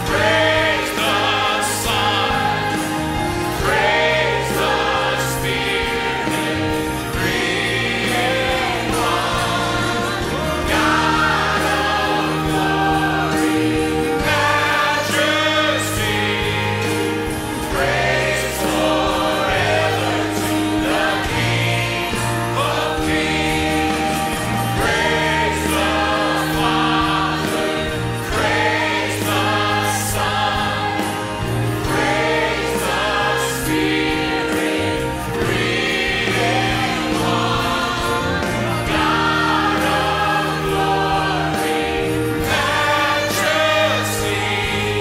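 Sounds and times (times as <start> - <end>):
choir singing: 0.0 - 45.0.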